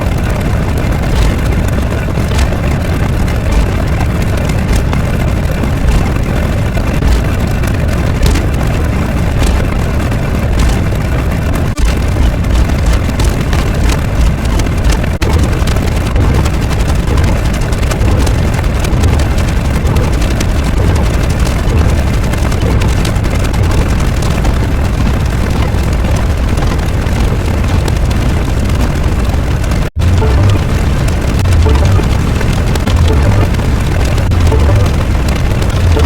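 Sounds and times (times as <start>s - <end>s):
loud low rumbling: 0.0s - 36.0s.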